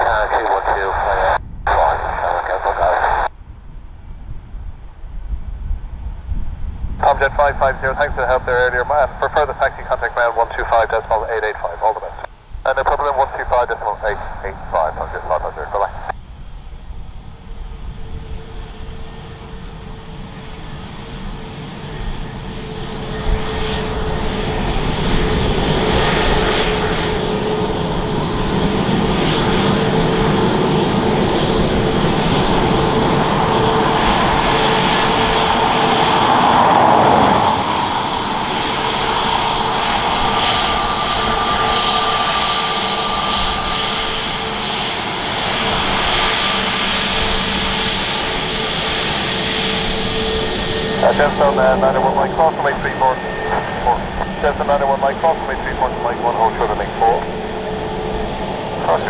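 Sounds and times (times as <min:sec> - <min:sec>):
jet engines whining: 0:00.0 - 0:03.3, 0:06.8 - 0:59.0.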